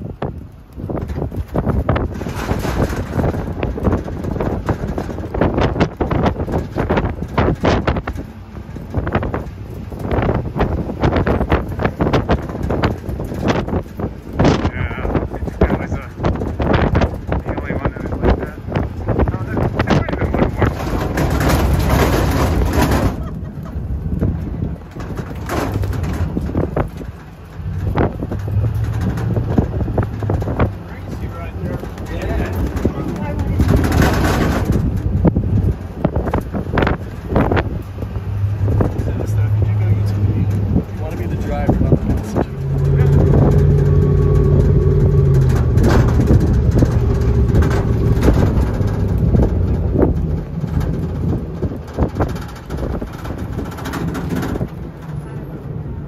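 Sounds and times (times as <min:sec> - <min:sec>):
bodywork knocking and rattling: 0:00.0 - 0:56.0
truck engine and road rumble: 0:00.0 - 0:56.0
wind buffeting microphone: 0:00.0 - 0:56.0.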